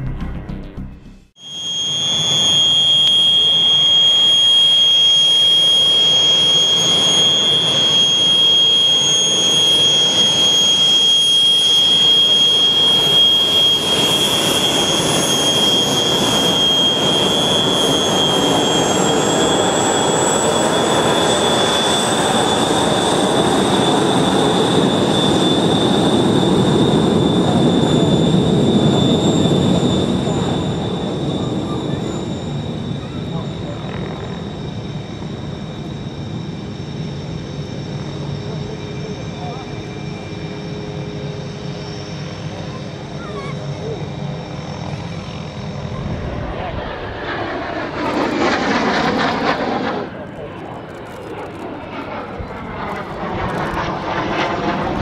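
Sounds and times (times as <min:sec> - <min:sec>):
jet engines whining and roaring: 0:00.0 - 0:55.0.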